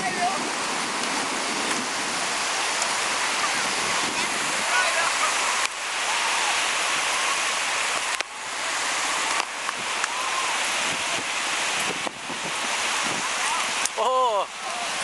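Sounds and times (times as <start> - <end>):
sea surf on a beach: 0.0 - 15.0.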